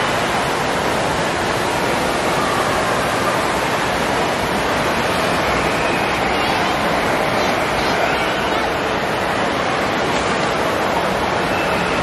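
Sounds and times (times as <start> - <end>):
water pouring and spraying: 0.0 - 12.0.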